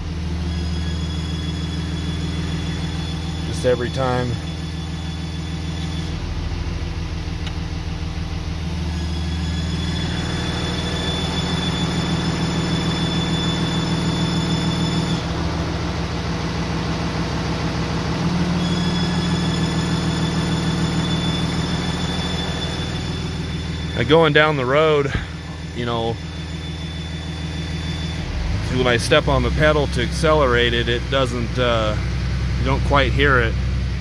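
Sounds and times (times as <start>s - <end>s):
diesel engine idling: 0.0s - 34.0s
high squeal from exhaust brake: 0.1s - 6.5s, 8.7s - 15.7s, 18.2s - 32.1s.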